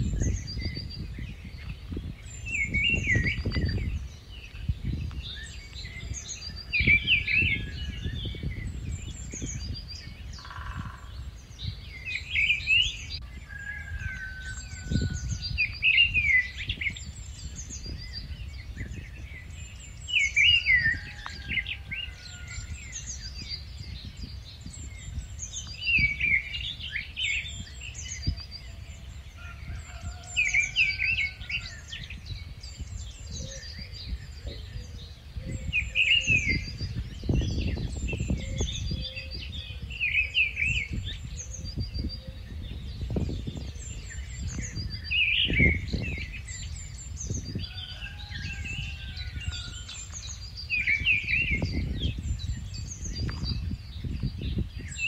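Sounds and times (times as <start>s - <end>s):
bird singing: 0.0s - 55.0s
wind rumble on microphone: 0.0s - 55.0s.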